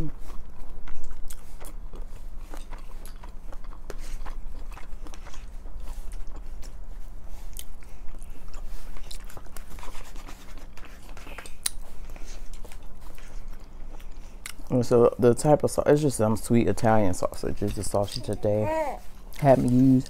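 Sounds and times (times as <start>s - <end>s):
people chewing: 0.0s - 20.0s
steady low hum: 0.0s - 20.0s.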